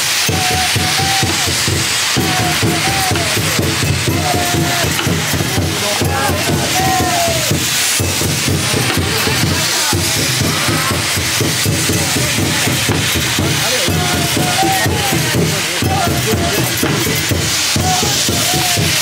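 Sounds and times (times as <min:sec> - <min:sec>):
festival drumming: 0:00.0 - 0:19.0
firework fountains hissing: 0:00.0 - 0:19.0.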